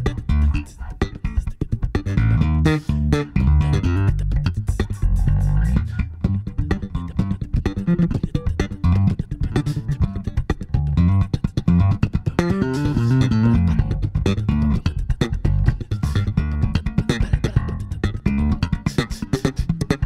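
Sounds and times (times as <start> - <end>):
bass guitars playing groove: 0.0 - 20.0.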